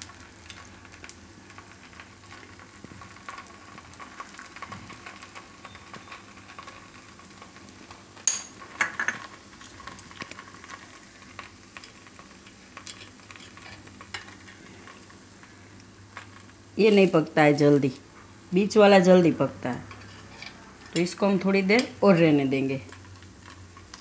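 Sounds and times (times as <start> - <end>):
oil sizzling and crackling: 0.0 - 24.0.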